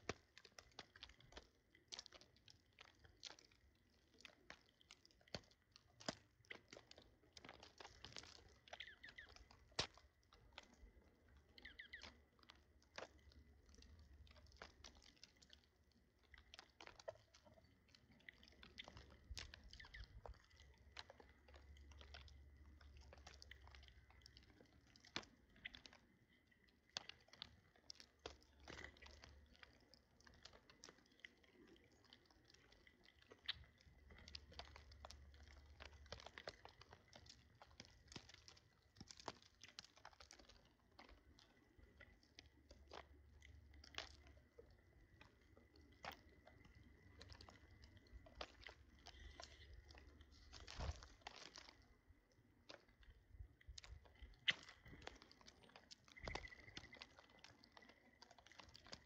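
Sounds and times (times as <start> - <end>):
birds pecking and cracking seeds: 0.0 - 59.0.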